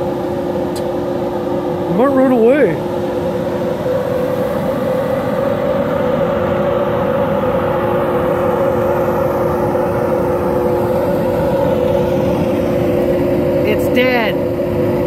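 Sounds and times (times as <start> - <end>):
machinery droning: 0.0 - 15.0.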